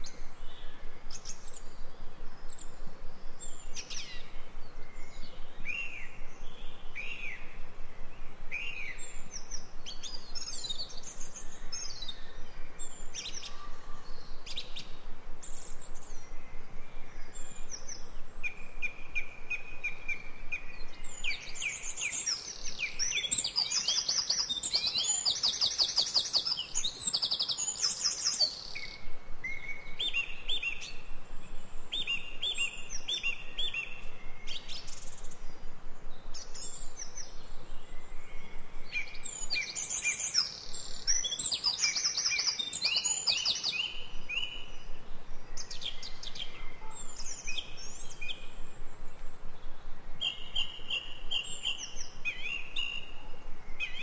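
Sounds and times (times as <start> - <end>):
songbirds chirping trills: 0.0 - 54.0.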